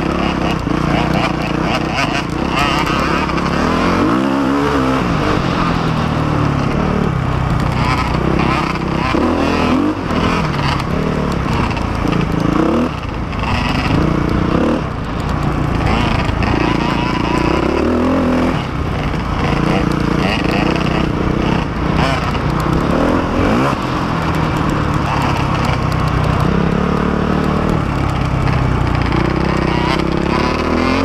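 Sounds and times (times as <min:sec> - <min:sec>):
dirt bike engine: 0:00.0 - 0:31.0.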